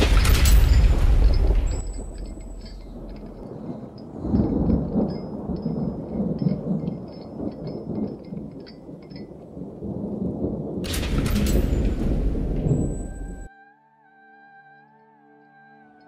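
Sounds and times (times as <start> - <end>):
faint rain: 0.0 - 13.5
rolling thunder: 0.0 - 13.5.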